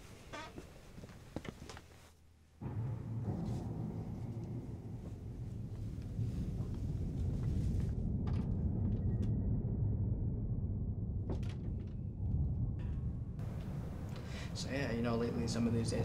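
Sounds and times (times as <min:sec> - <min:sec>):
low steady rumble: 0:02.5 - 0:16.0.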